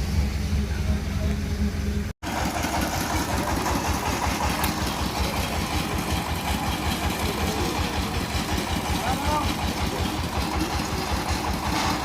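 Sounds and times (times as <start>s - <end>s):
machine engine idling: 0.0s - 12.0s.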